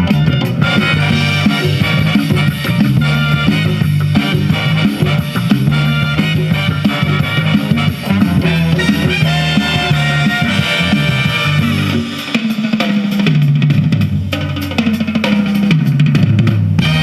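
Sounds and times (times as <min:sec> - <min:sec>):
swing instrumental music: 0:00.0 - 0:17.0.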